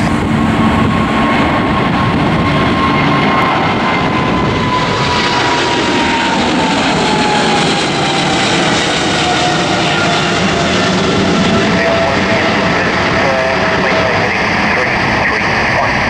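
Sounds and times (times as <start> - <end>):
jet roar at takeoff: 0.0 - 16.0.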